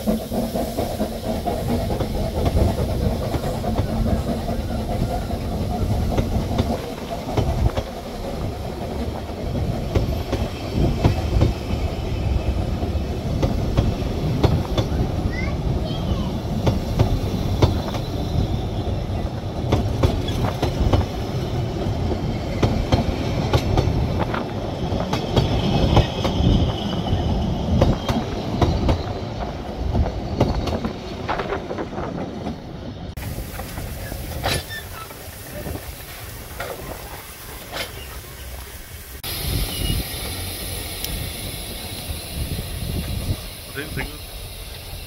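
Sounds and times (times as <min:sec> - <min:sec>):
railway carriages rolling: 0:00.0 - 0:45.0.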